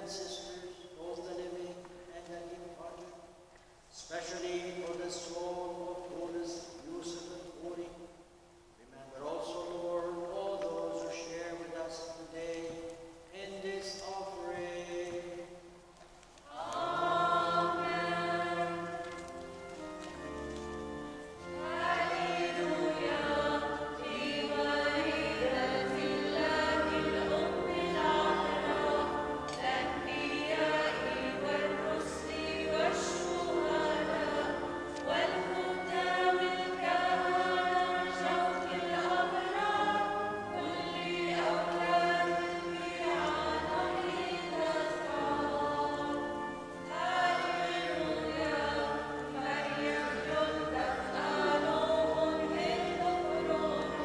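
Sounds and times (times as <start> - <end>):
choir singing a slow hymn: 8.9 - 54.0.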